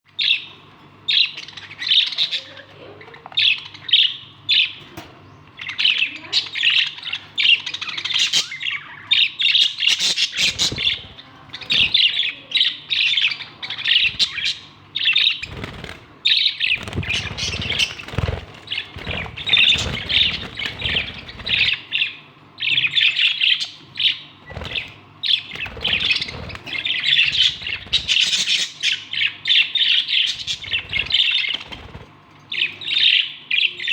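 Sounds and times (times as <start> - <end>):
budgerigar chirping and chattering: 5.7 - 33.9.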